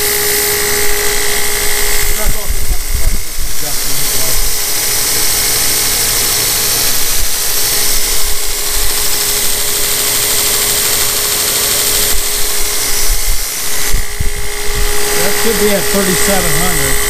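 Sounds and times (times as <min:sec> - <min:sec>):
grinder belt hiss: 0:00.0 - 0:17.0
motor whine: 0:00.0 - 0:17.0.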